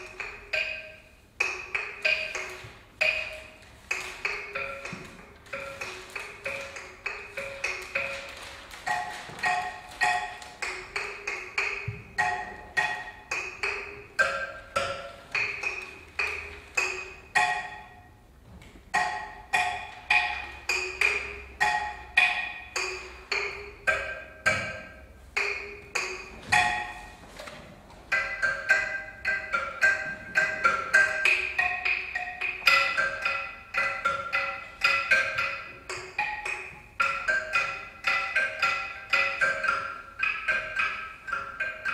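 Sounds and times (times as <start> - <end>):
tuned percussion notes: 0.0 - 41.9.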